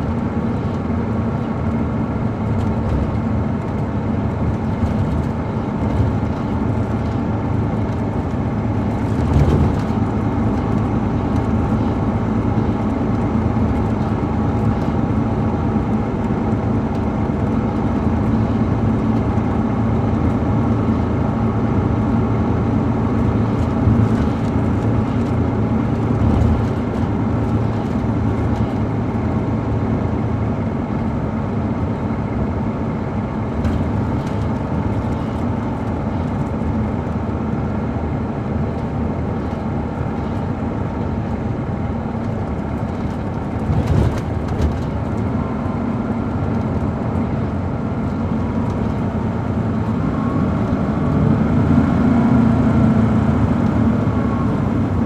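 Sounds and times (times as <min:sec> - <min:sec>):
diesel bus engine running: 0:00.0 - 0:55.0.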